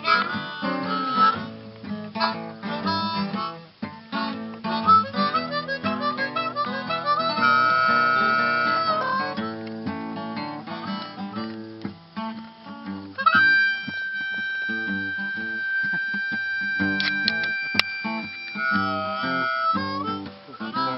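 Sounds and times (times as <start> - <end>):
harmonica: 0.0 - 20.9
plucked acoustic guitar: 0.0 - 20.9.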